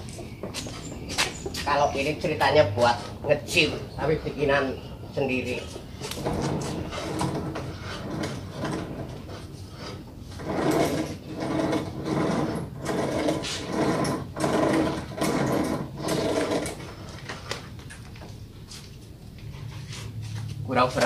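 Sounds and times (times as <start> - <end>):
rope and chain creaking and rattling: 0.0 - 3.8, 5.2 - 21.0.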